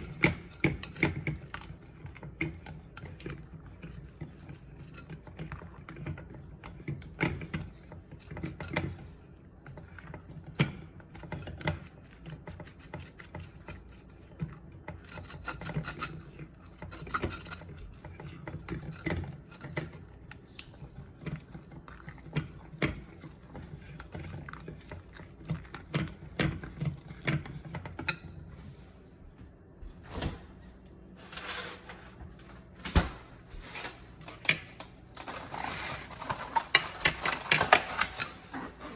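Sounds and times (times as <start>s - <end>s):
utensils scraping and knocking: 0.0s - 28.7s, 31.1s - 32.7s, 33.6s - 38.9s.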